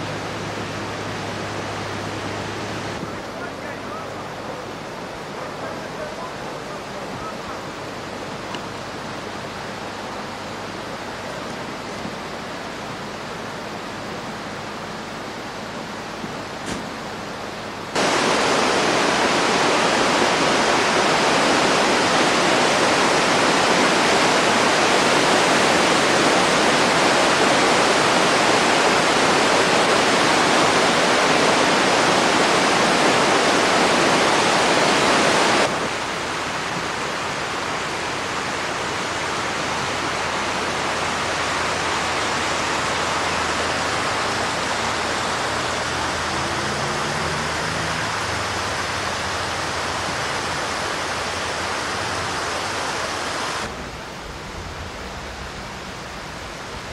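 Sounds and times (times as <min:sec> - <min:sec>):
river rushing over rocks: 0:00.0 - 0:56.9.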